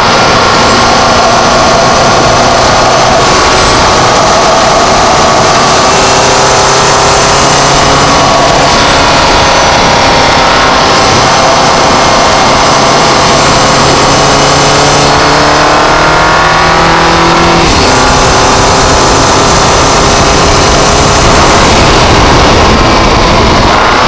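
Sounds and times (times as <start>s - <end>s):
car engine accelerating: 0.0s - 24.0s
high turbo whistle: 0.0s - 24.0s.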